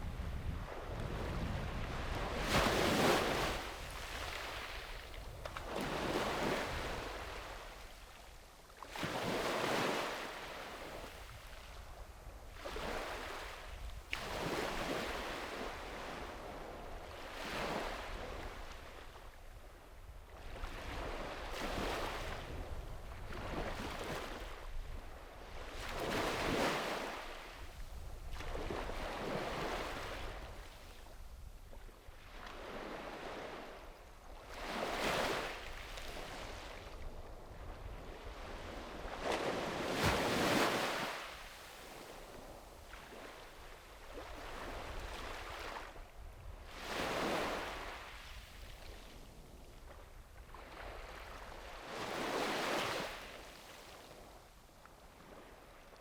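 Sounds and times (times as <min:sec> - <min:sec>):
sea waves breaking on shore: 0:00.0 - 0:08.1, 0:08.8 - 0:11.6, 0:12.5 - 0:19.4, 0:20.3 - 0:31.1, 0:32.0 - 0:54.4.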